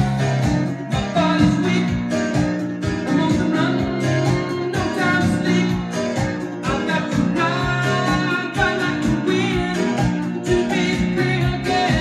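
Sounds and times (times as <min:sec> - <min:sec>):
song with guitar and singing: 0:00.0 - 0:12.0.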